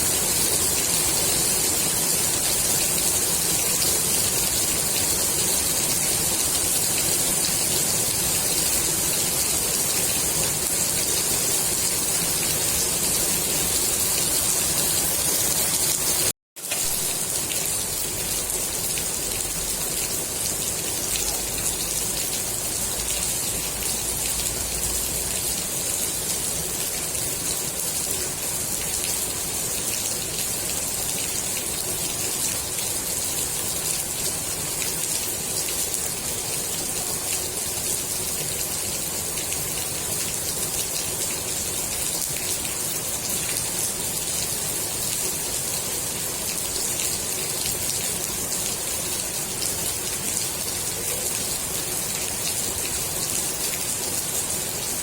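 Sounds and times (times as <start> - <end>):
rain pattering on water: 0.1 - 55.0.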